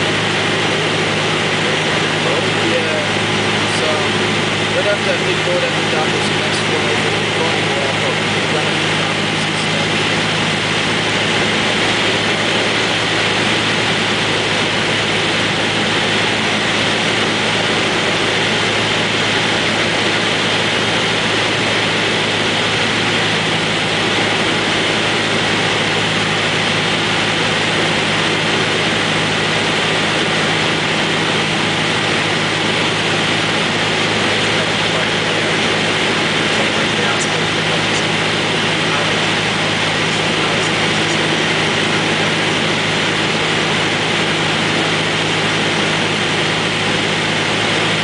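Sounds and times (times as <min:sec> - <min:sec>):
aircraft engine drone: 0:00.0 - 0:48.0
rush of air noise: 0:00.0 - 0:48.0.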